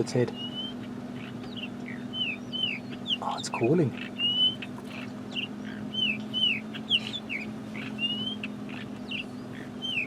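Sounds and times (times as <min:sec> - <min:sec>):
steady low hum: 0:00.0 - 0:10.0
bird whistled calls: 0:00.3 - 0:10.0.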